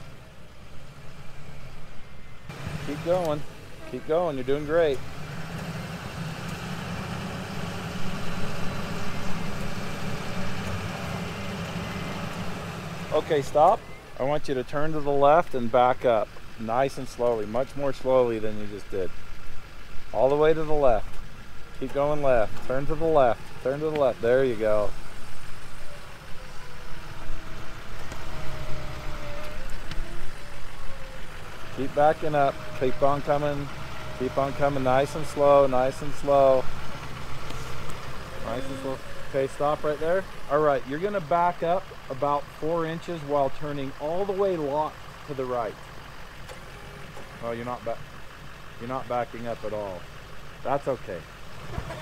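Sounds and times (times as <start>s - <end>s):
truck engine running at low revs: 0.0s - 52.0s.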